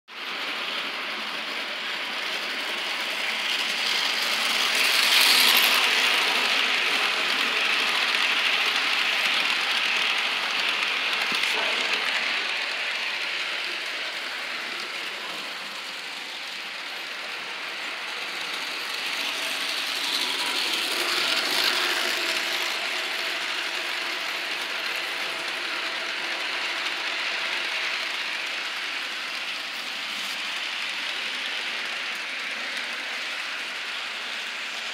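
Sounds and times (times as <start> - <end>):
model train whirring on track: 0.1 - 34.9.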